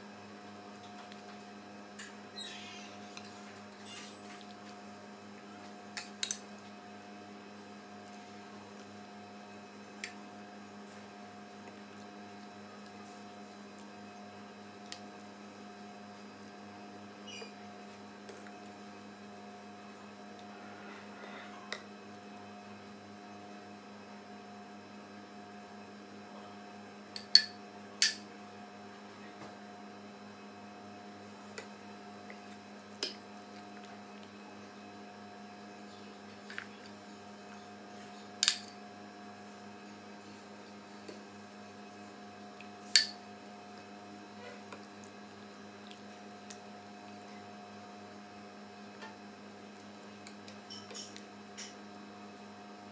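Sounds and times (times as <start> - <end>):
steady electrical hum: 0.0 - 52.9.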